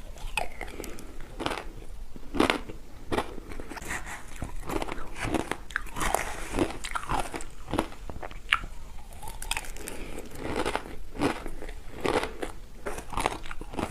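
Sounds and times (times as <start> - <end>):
ice crunching between teeth: 2.4 - 13.9.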